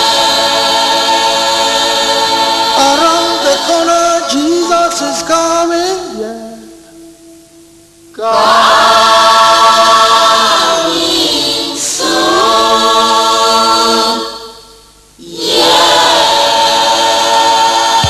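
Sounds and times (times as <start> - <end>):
gospel choir singing: 0.0 - 6.7, 8.1 - 18.0.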